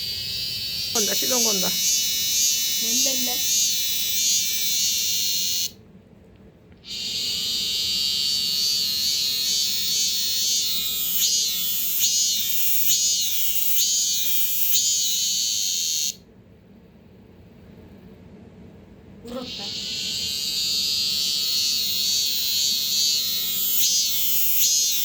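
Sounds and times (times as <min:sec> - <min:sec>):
cicada buzzing: 0:00.0 - 0:05.8, 0:06.9 - 0:16.2, 0:19.3 - 0:25.0.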